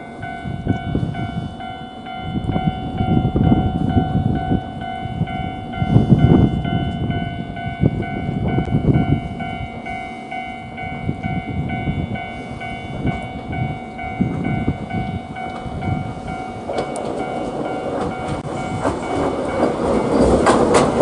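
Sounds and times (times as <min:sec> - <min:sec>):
train rumbling clatter: 0:00.0 - 0:21.0
train whine: 0:00.0 - 0:21.0.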